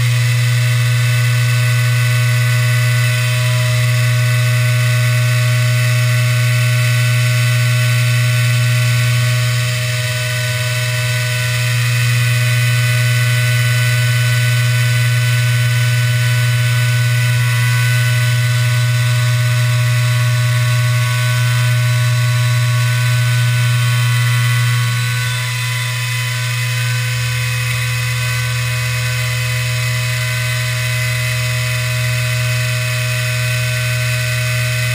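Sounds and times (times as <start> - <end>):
router spindle motor humming and whining: 0.0 - 34.9.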